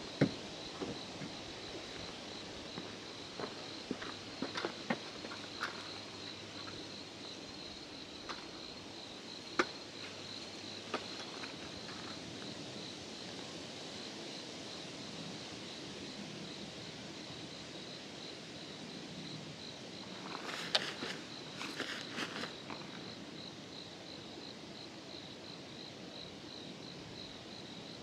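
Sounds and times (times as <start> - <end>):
cricket chirping: 0.0 - 28.0
faint outdoor hiss: 0.0 - 28.0.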